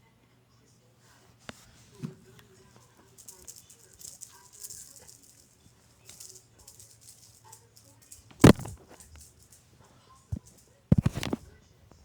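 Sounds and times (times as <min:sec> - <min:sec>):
faint rustling: 0:01.0 - 0:12.0.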